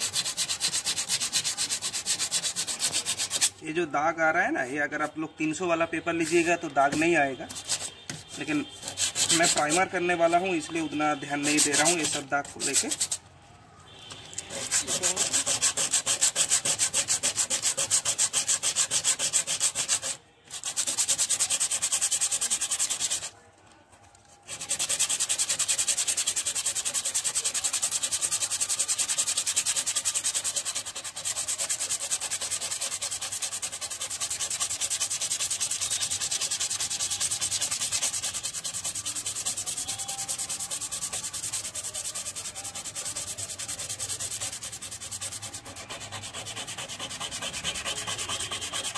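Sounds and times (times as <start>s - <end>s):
sandpaper rasping on filler: 0.0s - 3.6s, 6.1s - 13.2s, 14.5s - 23.4s, 24.4s - 48.9s.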